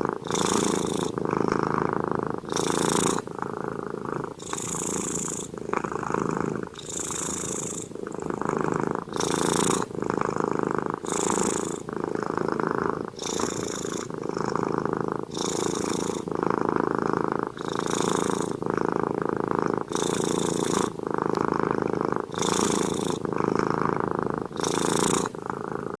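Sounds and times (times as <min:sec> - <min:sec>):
cat snoring: 0:00.0 - 0:26.0.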